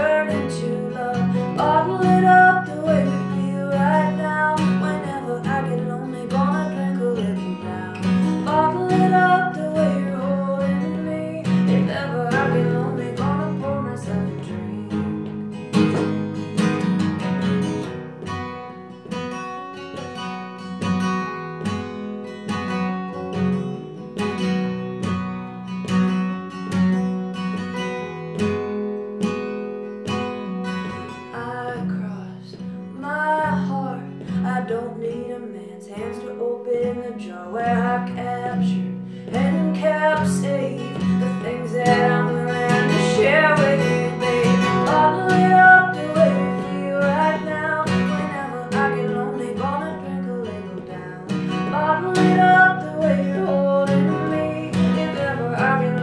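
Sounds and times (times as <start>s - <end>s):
strummed acoustic guitar: 0.0s - 56.0s
woman singing country song: 0.0s - 56.0s.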